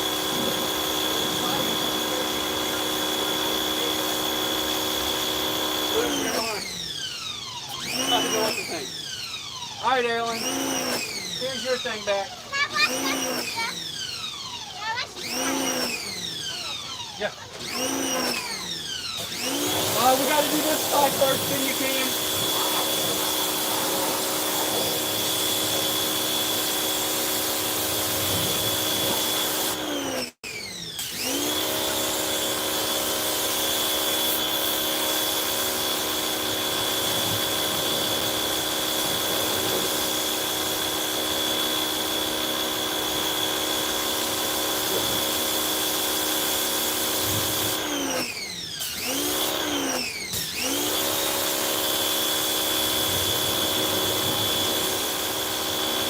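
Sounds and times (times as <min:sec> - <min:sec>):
pressure washer motor whining: 0:00.0 - 0:56.0.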